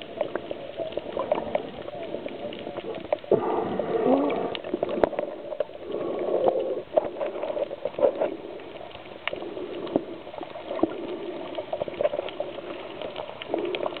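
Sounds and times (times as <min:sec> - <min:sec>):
underwater bubbling: 0:00.0 - 0:14.0.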